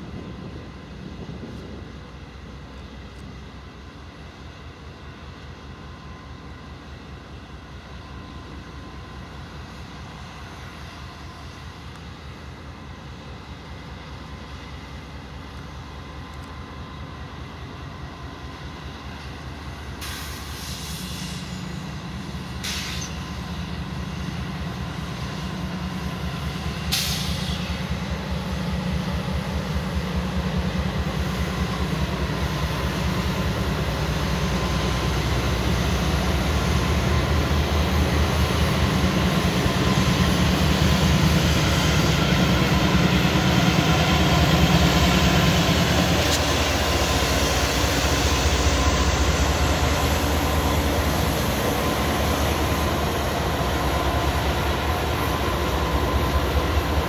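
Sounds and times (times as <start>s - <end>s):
freight train locomotives rumbling: 0.0s - 57.0s.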